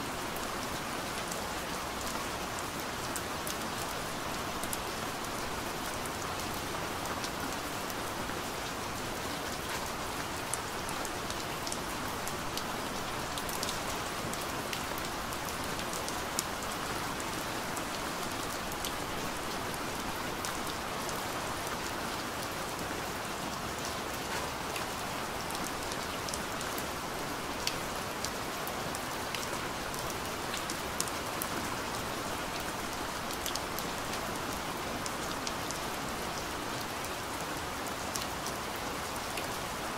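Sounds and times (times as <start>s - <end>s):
steady rain falling: 0.0s - 39.9s
sharp ticks of raindrops: 0.1s - 39.9s.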